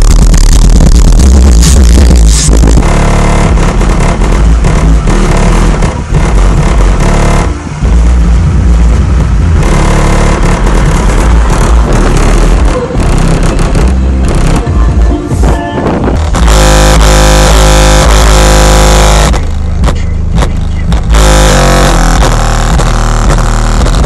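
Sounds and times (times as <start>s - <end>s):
loud bass music from car subwoofers: 0.0s - 24.0s.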